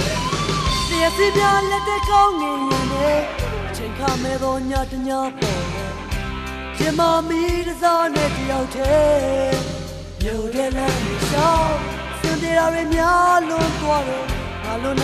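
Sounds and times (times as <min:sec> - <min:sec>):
person singing: 0:00.0 - 0:15.0
pop-rock band playing: 0:00.0 - 0:15.0.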